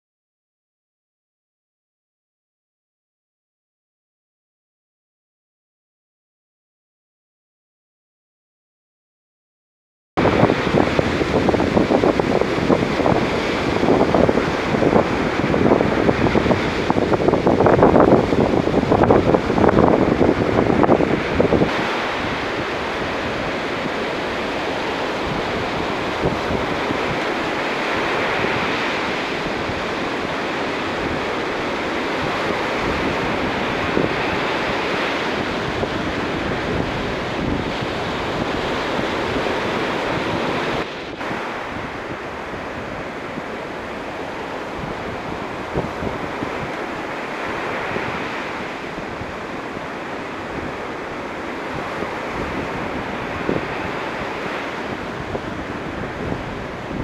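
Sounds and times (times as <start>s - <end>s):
ocean waves breaking on beach: 10.2s - 57.0s
wind buffeting microphone: 10.2s - 57.0s.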